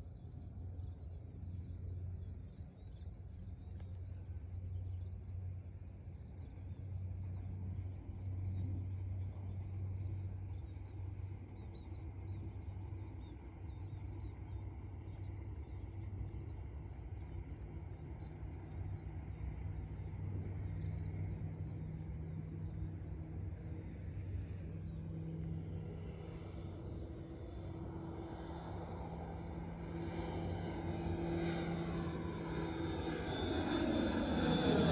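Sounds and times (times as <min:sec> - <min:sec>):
distant propeller aircraft drone: 0:00.0 - 0:34.9.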